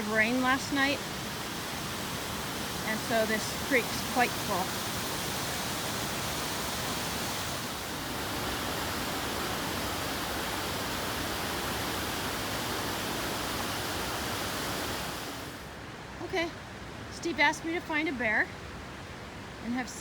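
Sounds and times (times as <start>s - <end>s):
creek rushing: 0.0s - 20.0s.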